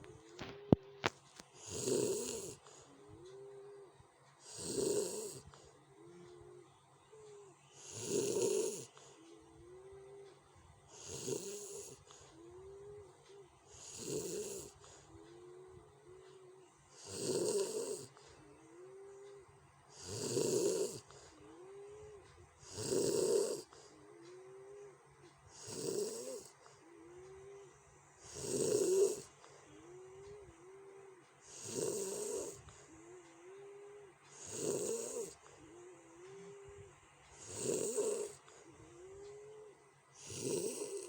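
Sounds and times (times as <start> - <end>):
person snoring: 0.0 - 41.0.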